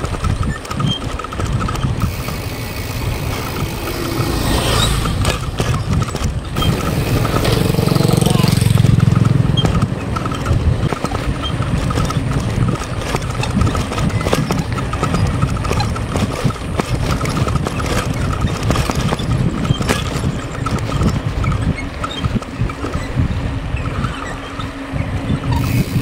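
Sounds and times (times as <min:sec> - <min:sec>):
bike knocks and rattles: 0:00.0 - 0:26.0
bike tyres on rough concrete: 0:00.0 - 0:26.0
wind buffeting microphone: 0:00.0 - 0:26.0.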